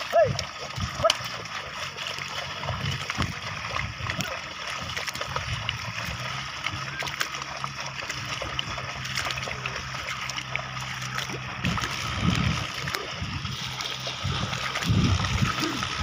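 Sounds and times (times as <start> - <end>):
hooves splashing in mud: 0.0 - 16.0
plough dragging through mud: 0.0 - 16.0.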